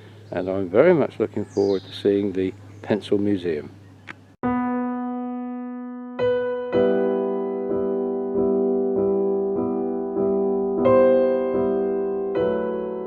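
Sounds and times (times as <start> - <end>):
electric piano chords: 0.0 - 13.0.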